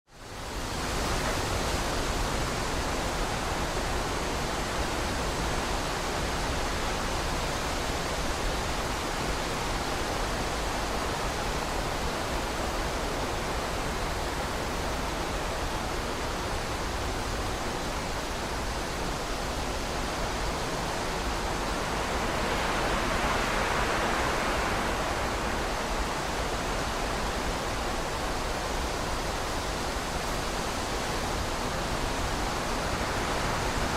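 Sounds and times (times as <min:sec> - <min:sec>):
strong wind blowing: 0:00.3 - 0:33.9.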